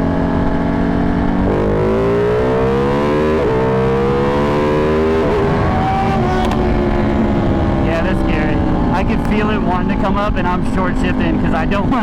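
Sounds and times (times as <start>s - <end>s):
motorcycle engine accelerating hard: 0.0s - 12.0s.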